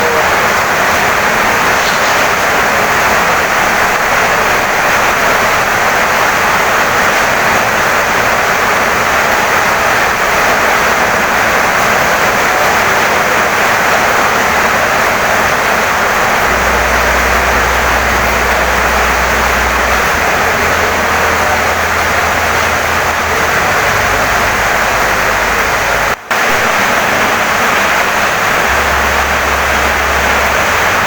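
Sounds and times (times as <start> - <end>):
heavy rain on a wooden house: 0.0 - 31.0.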